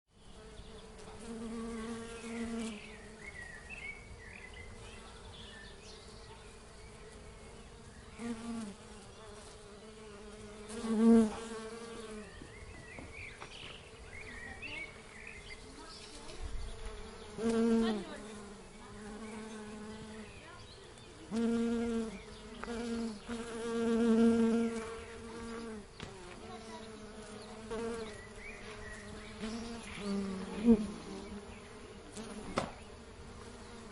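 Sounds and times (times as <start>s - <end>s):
bee passing close: 0.2s - 33.9s
bees buzzing: 0.2s - 33.9s.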